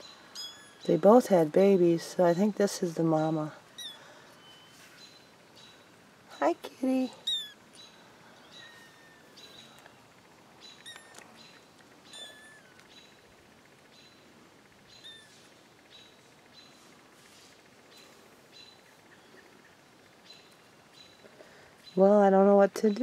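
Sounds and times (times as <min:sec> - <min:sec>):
bird chirping: 0:00.0 - 0:17.0, 0:17.9 - 0:23.0.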